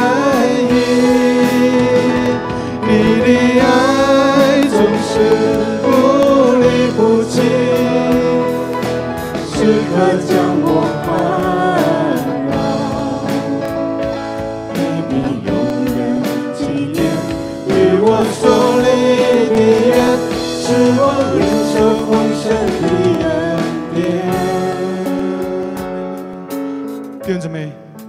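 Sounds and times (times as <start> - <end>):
person singing: 0.0 - 26.9
guitar: 0.0 - 28.0.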